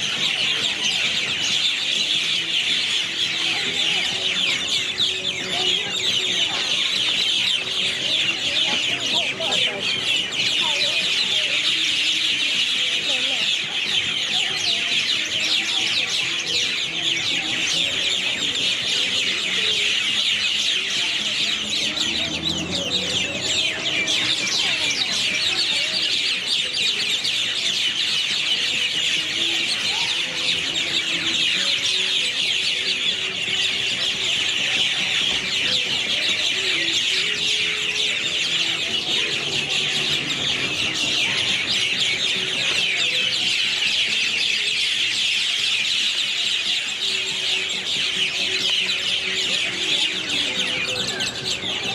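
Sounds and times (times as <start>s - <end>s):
flock of birds chirping: 0.0s - 51.9s.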